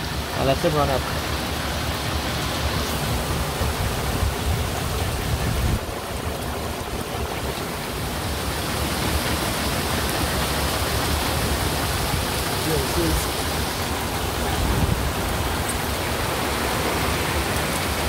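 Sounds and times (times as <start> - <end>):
heavy rain on water: 0.0 - 18.0.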